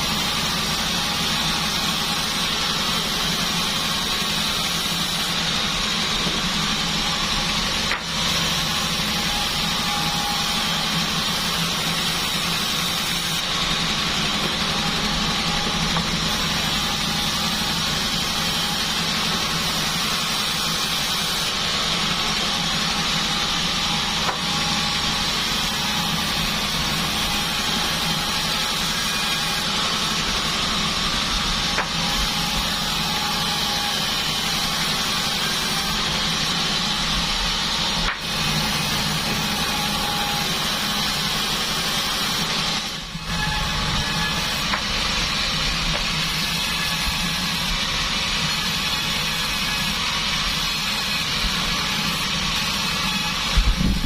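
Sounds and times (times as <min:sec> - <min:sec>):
bandsaw blade whine: 0:00.0 - 0:54.0
sawmill machine low drone: 0:00.0 - 0:54.0.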